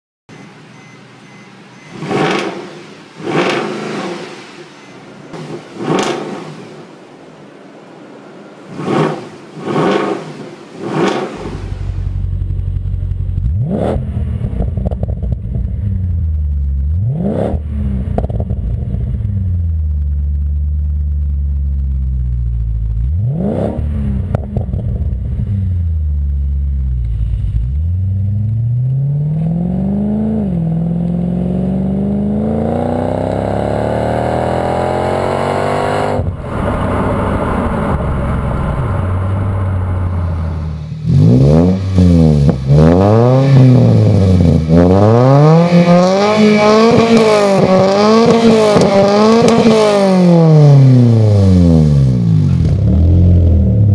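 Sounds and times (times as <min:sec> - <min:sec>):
car engine accelerating: 0:01.8 - 0:07.1, 0:08.6 - 0:53.9
car engine revving: 0:01.8 - 0:07.5, 0:08.3 - 0:53.9.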